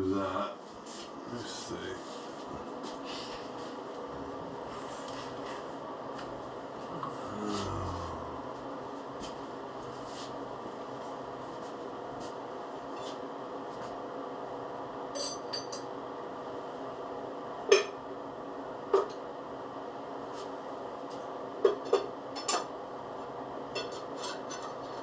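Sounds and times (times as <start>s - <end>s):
steady shop hum: 0.0s - 25.0s.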